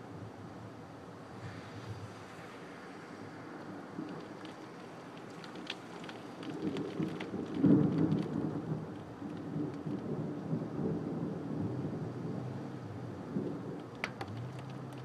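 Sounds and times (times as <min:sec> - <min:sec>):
thunder rumbling: 0:01.5 - 0:15.0
rain tapping on window glass: 0:02.2 - 0:15.0.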